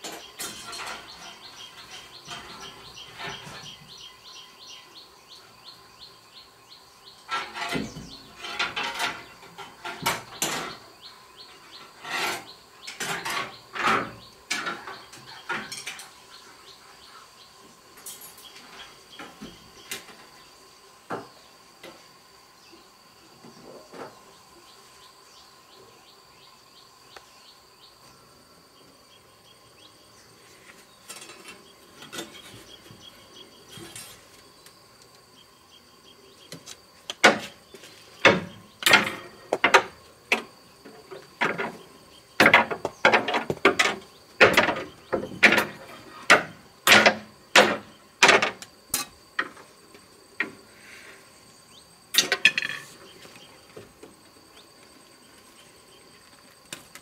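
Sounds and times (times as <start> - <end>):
high insect whine: 0.0 - 57.0.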